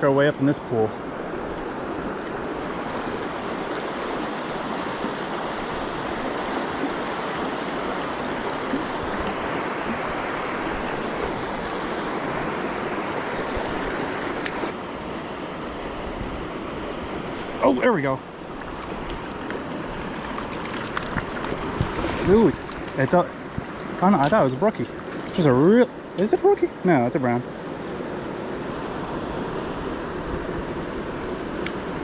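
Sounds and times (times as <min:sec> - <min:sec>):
creek water rushing: 0:00.0 - 0:32.0.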